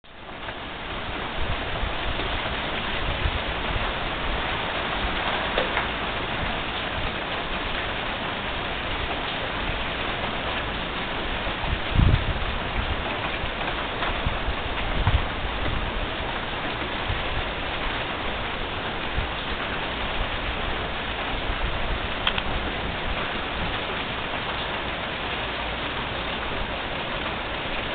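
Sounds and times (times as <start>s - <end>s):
rain hissing: 0.1s - 27.9s.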